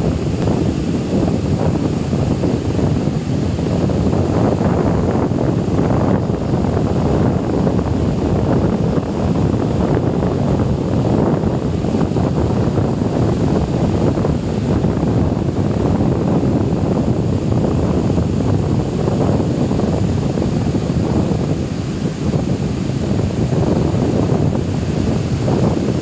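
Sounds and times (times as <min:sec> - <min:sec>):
surf washing up a beach: 0:00.0 - 0:26.0
wind buffeting the microphone: 0:00.0 - 0:26.0.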